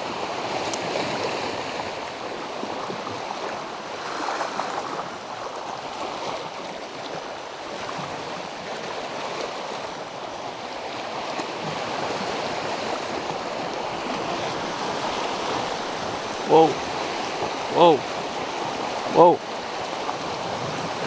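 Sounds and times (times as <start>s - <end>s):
small waves washing against rocks: 0.0s - 21.0s.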